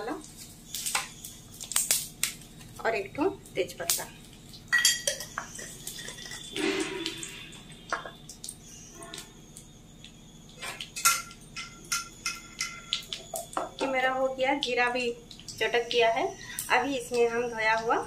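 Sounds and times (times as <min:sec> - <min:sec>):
seeds popping in hot oil: 0:00.0 - 0:18.0.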